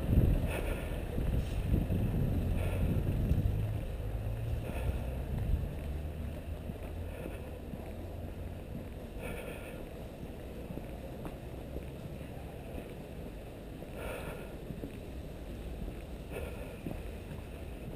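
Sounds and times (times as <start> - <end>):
wind rumble on microphone: 0.0 - 17.9.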